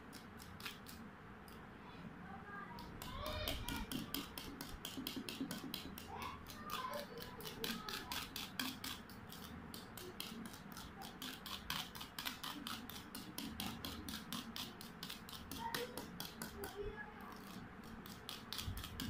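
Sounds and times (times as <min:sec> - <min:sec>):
whisk scraping a steel bowl: 0:02.8 - 0:19.0.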